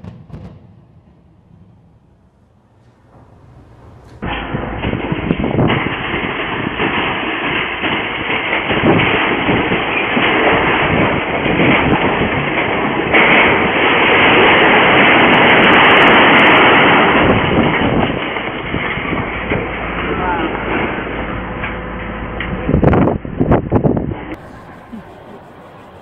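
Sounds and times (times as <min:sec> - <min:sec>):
silo collapsing rumble and crash: 0:00.0 - 0:26.0.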